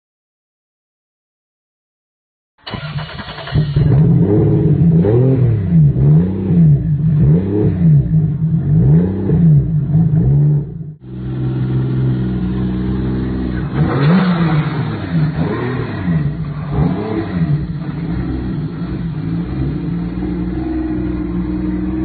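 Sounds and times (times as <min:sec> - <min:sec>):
car engine revving and idling: 0:02.7 - 0:22.0.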